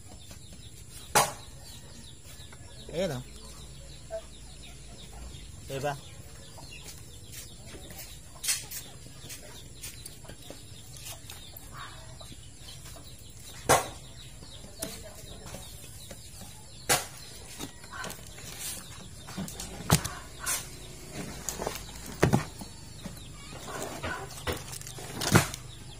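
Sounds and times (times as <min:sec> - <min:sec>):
chickens clucking: 0:00.0 - 0:25.9.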